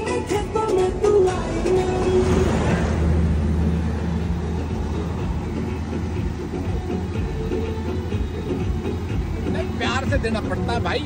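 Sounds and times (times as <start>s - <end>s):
background music with held notes: 0.0s - 2.9s, 4.3s - 11.0s.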